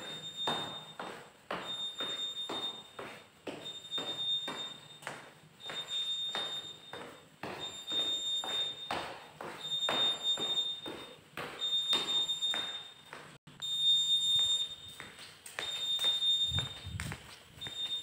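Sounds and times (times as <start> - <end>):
electronic alarm buzzer beeping: 0.0 - 17.0, 17.6 - 18.0
footsteps on concrete floor: 0.0 - 18.0.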